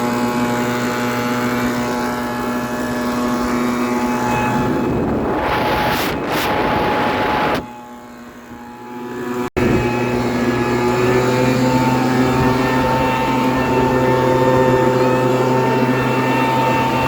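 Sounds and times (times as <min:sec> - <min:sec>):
leaf blower engine drone: 0:00.0 - 0:17.0.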